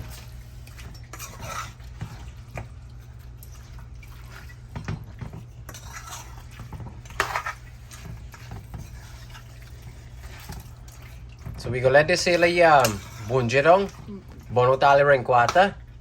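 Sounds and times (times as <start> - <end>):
spoon stirring and scraping pot: 0.0 - 15.8.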